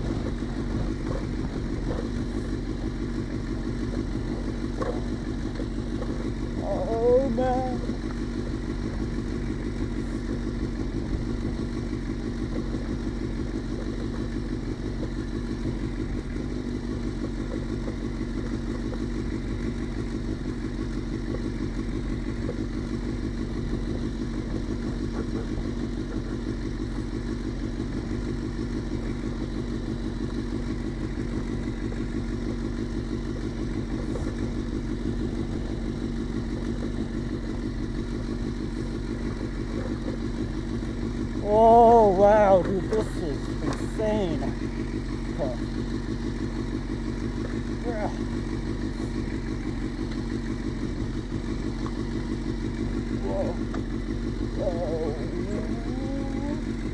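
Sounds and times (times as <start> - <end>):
motorcycle engine running at low revs: 0.0 - 56.9.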